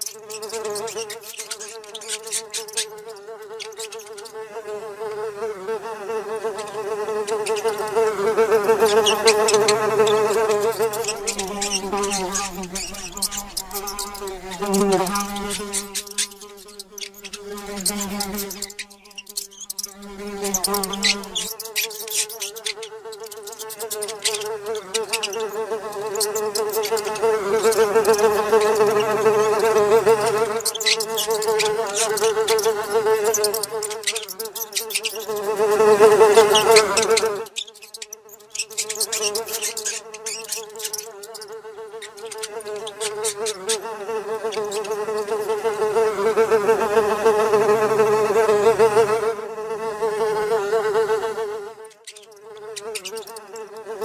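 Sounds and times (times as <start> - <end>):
housefly buzzing: 0.0 - 54.0.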